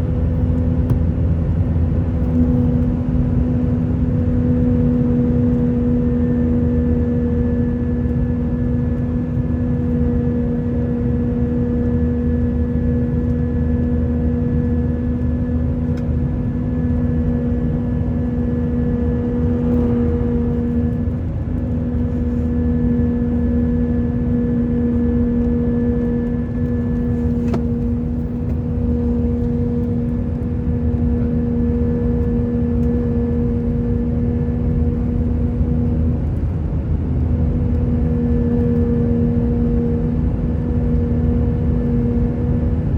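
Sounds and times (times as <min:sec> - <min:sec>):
aircraft cabin rumble: 0:00.0 - 0:42.9
constant low humming tone: 0:00.0 - 0:42.9.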